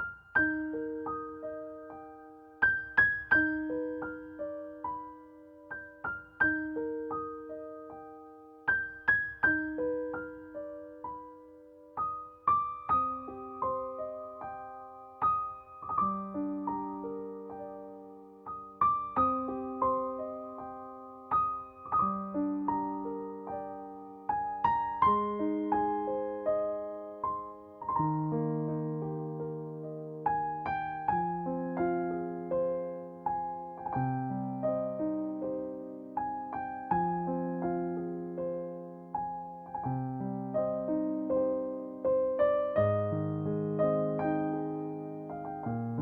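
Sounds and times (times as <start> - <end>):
gentle piano melody: 0.0 - 46.0.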